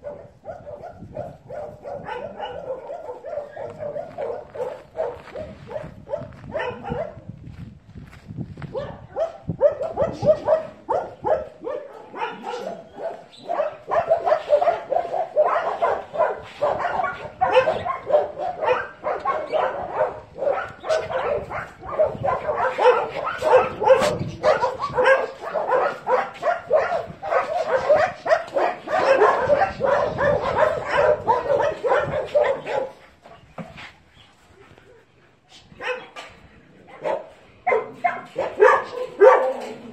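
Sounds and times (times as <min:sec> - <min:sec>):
dogs barking: 0:00.0 - 0:07.3, 0:08.7 - 0:33.8, 0:35.8 - 0:39.9.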